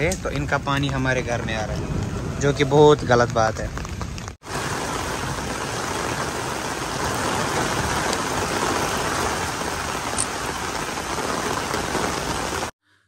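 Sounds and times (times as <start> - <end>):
rain on an umbrella: 0.0 - 12.8
rain on wet pavement: 0.0 - 12.8.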